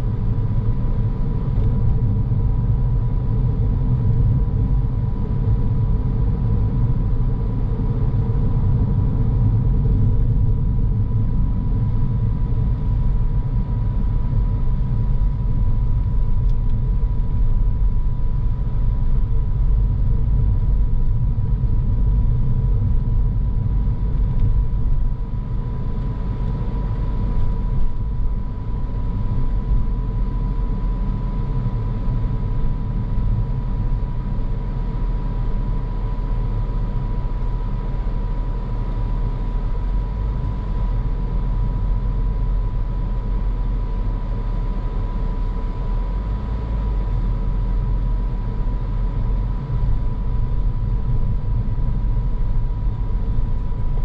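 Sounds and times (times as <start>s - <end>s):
car road and tyre rumble: 0.0s - 54.0s
thin steady whine: 0.0s - 54.0s.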